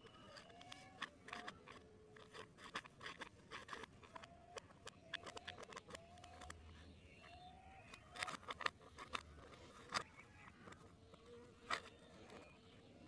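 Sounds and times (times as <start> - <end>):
plastic pipe clicking and scraping: 0.0 - 12.9.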